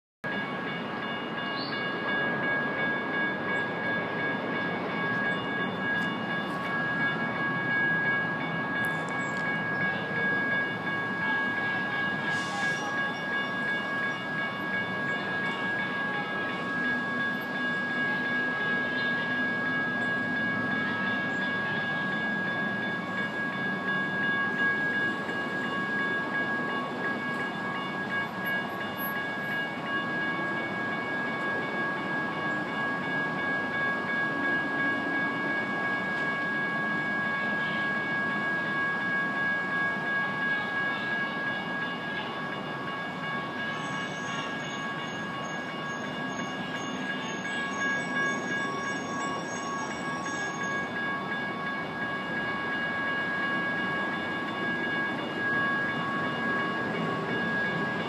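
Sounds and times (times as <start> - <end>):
electronic crossing bell ringing: 0.3 - 58.0.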